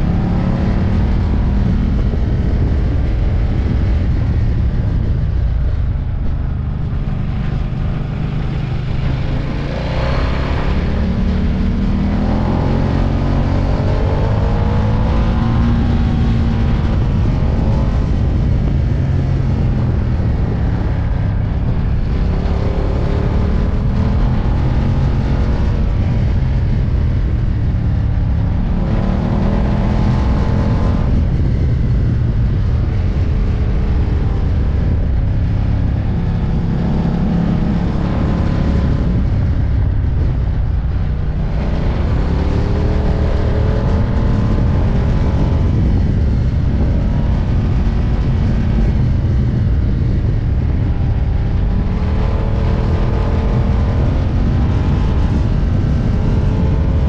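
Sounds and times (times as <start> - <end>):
low rush of riding noise: 0.0 - 57.0
motorcycle engine revving: 0.0 - 57.0.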